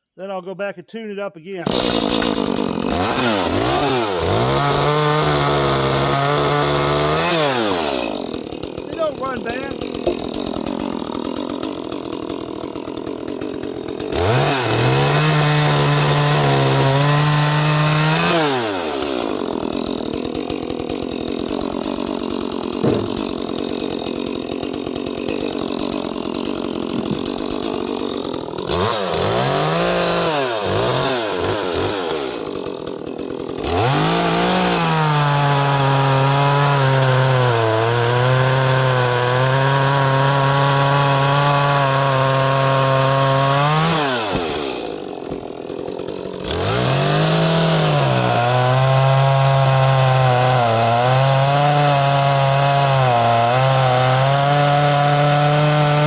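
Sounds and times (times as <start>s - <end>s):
chainsaw cutting wood: 1.6s - 56.0s.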